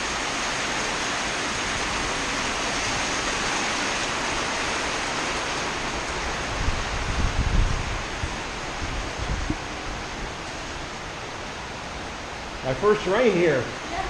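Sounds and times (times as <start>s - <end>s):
wind buffeting microphone: 0.0s - 12.6s
heavy rain pouring: 0.0s - 14.0s.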